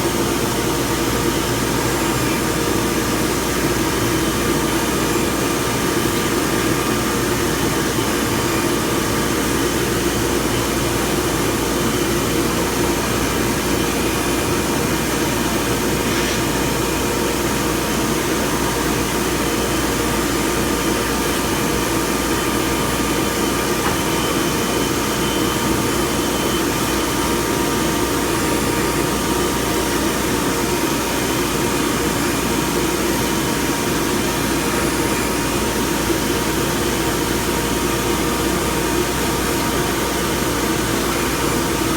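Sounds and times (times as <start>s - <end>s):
cnc router humming and whining: 0.0s - 41.9s.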